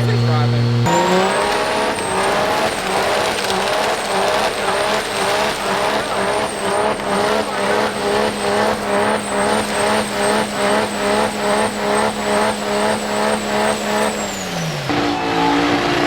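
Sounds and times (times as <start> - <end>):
diesel truck engine revving: 0.0 - 16.0
turbo whistle: 0.8 - 15.8.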